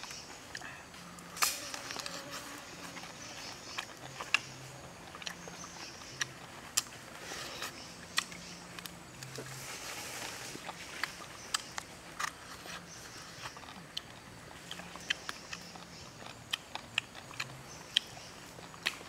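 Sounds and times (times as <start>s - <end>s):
person chewing chicken crunches: 0.0s - 9.6s, 10.5s - 19.0s.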